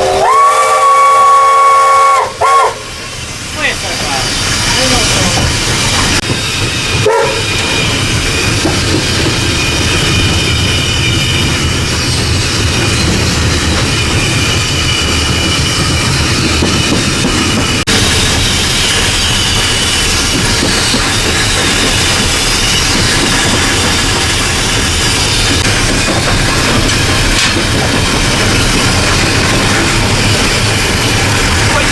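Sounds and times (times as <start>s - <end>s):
steam locomotive running: 0.0s - 31.9s
wheels on rails: 3.5s - 31.9s.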